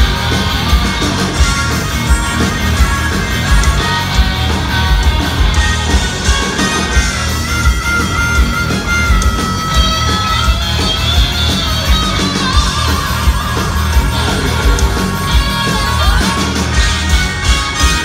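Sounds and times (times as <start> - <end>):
live hard rock band: 0.0 - 18.0.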